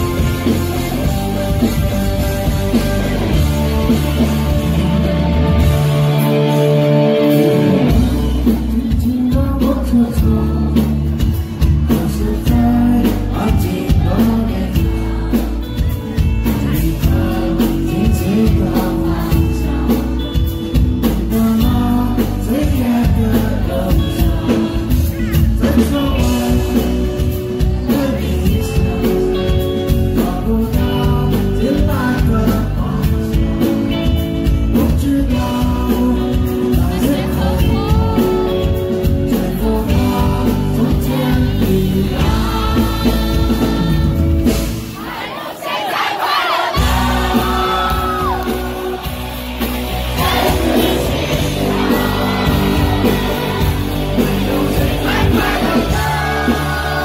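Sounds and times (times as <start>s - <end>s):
electric guitar: 0.0s - 45.0s, 46.8s - 57.0s
drums: 0.0s - 57.0s
male lead vocal: 0.0s - 57.0s.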